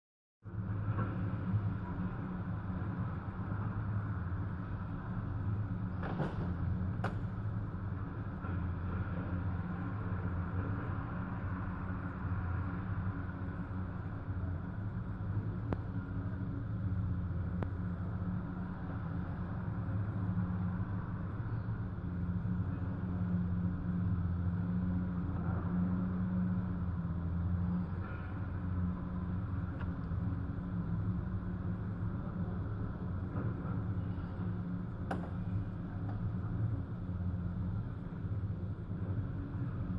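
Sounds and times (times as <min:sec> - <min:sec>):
muffled excavator engines: 0:00.4 - 0:39.9
muffled street traffic: 0:00.4 - 0:39.9.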